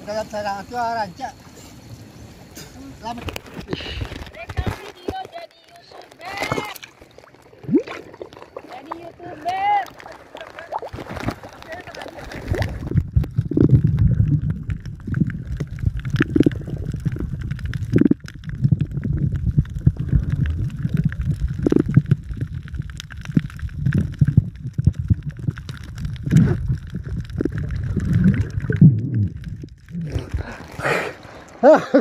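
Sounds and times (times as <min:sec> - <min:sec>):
underwater rumble and sloshing: 0:01.8 - 0:31.6.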